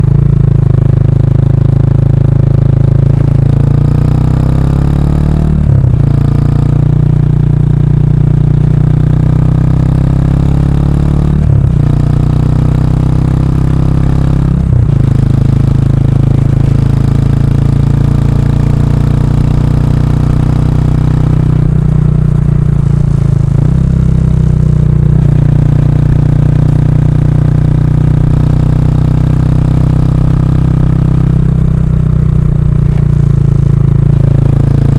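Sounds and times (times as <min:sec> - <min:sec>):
motorcycle engine accelerating through gears: 0:00.0 - 0:34.9.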